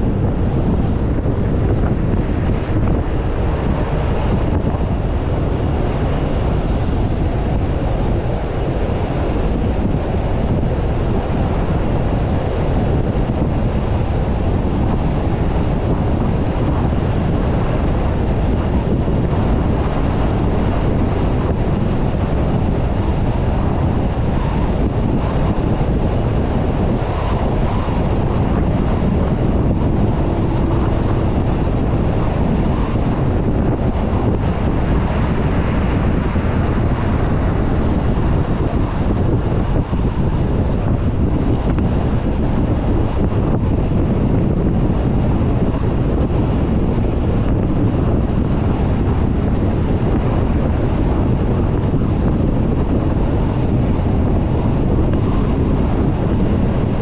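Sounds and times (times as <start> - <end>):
car road noise at highway speed: 0.0 - 57.0
wind buffeting microphone: 0.0 - 57.0.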